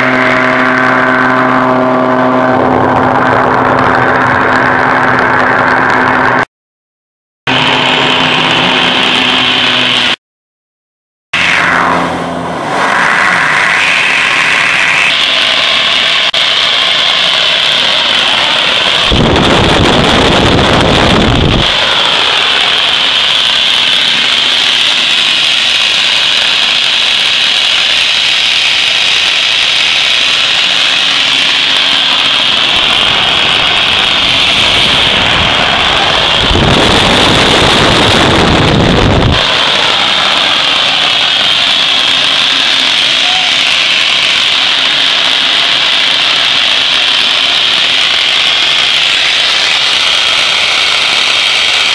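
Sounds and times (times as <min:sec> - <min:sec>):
high-pitched turbine whine: 0:00.0 - 0:06.5, 0:07.5 - 0:10.2, 0:11.4 - 0:51.9
rushing combustion noise: 0:00.0 - 0:06.5, 0:07.5 - 0:10.2, 0:11.4 - 0:51.9.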